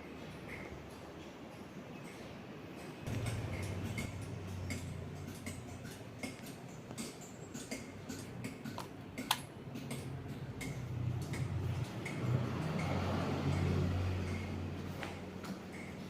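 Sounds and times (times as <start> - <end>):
ceiling fan motor hum: 0.0 - 16.0
light regular ticking: 0.2 - 16.0.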